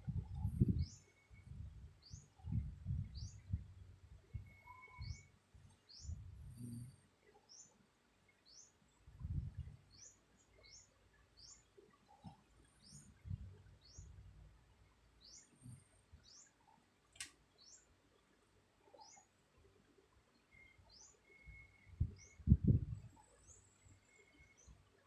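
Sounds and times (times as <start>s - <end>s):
bird chirping: 0.2s - 3.6s, 4.3s - 9.0s, 9.6s - 16.8s, 17.6s - 17.9s, 18.8s - 19.4s, 20.3s - 24.9s.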